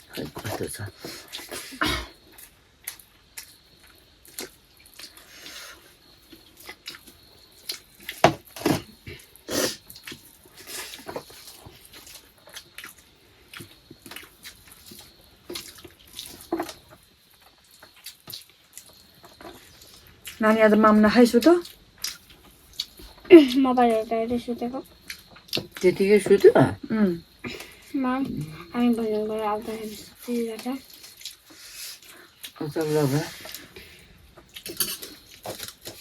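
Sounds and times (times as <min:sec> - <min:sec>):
close-up chewing and wet smacks: 0:01.2 - 0:01.6, 0:02.2 - 0:20.4, 0:21.3 - 0:23.6, 0:24.8 - 0:26.5, 0:29.7 - 0:36.0.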